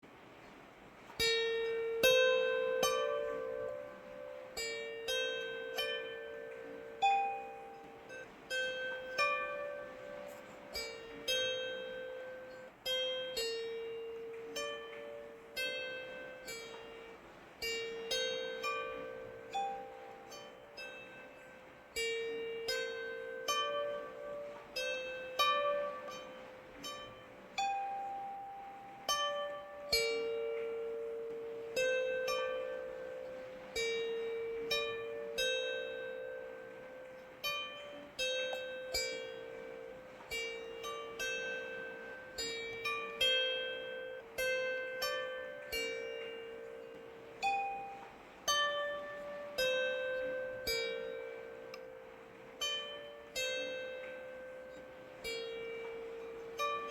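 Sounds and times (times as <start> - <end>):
plucked string melody: 0.0 - 56.9.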